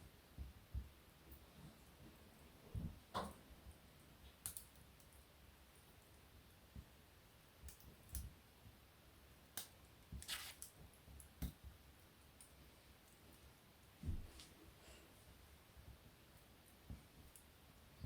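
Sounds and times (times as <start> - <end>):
faint low background: 0.0 - 18.0
wood fire crackling: 0.0 - 18.0.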